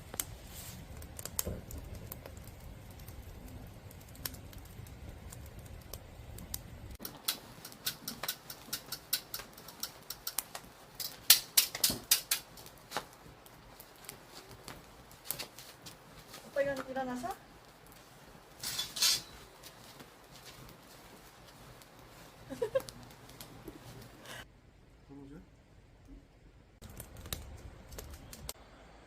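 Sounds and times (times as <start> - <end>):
campfire crackling and popping: 0.0 - 24.5, 26.8 - 28.6.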